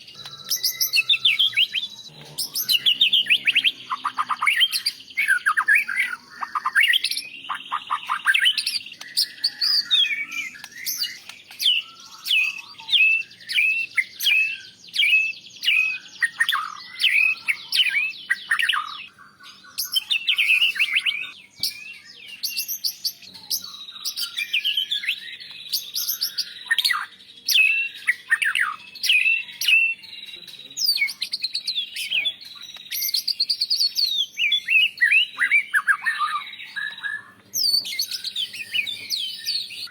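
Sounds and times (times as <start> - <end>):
songbird singing chirps and whistles: 0.0 - 39.9.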